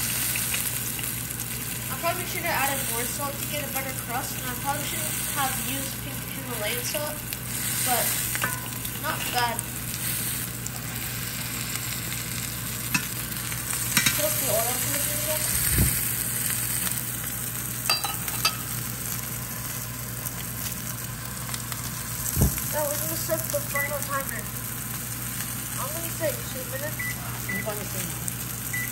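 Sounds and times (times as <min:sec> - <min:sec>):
fish sizzling in hot oil: 0:00.0 - 0:28.9.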